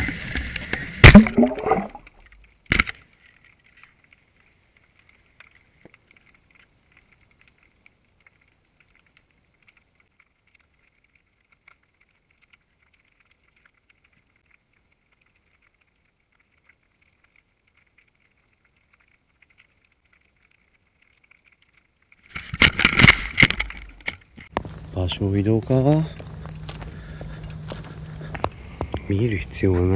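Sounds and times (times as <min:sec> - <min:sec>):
faint underwater clicks and crackles: 0:00.0 - 0:29.9.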